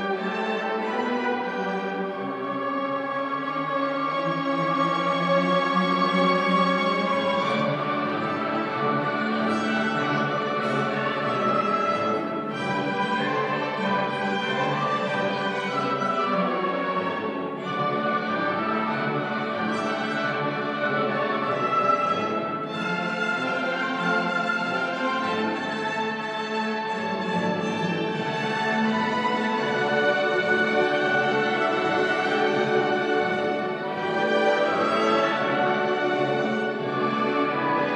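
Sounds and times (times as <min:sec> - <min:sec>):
orchestra playing classical piece: 0:00.0 - 0:37.9.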